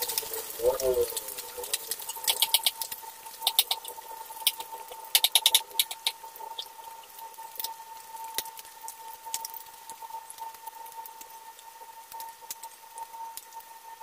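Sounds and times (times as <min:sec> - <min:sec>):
oil crackling and popping: 0:00.0 - 0:14.0.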